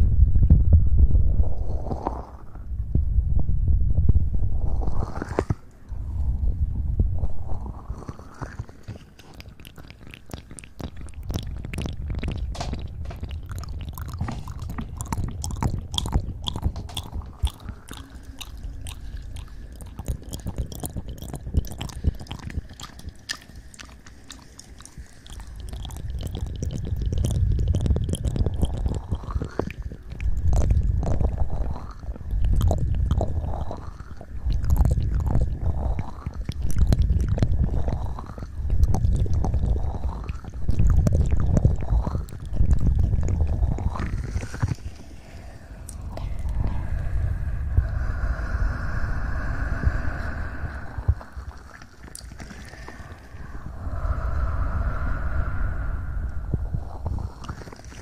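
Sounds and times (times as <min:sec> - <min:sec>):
low rumble of lips on microphone: 0:00.0 - 0:58.0
wet lip and tongue clicks: 0:07.6 - 0:58.0.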